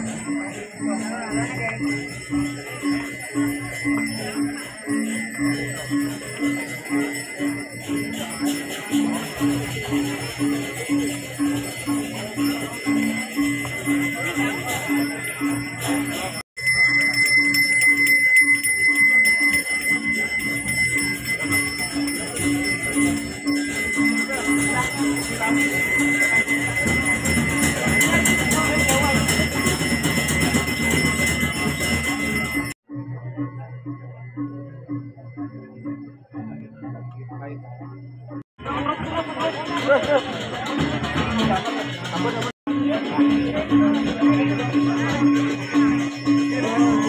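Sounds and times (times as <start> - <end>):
bell ringing: 0.0 - 47.0
gamelan playing low metallic notes: 0.0 - 47.0.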